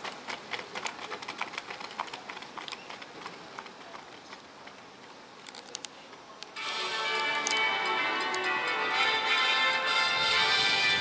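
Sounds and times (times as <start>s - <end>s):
faint crowd noise: 0.0s - 11.0s.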